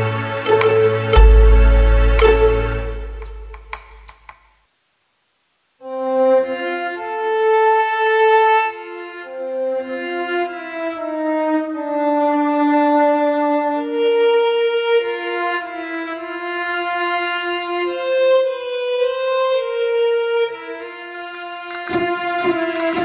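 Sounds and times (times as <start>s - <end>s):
slow violin-like melody: 0.0s - 4.1s, 5.8s - 23.0s.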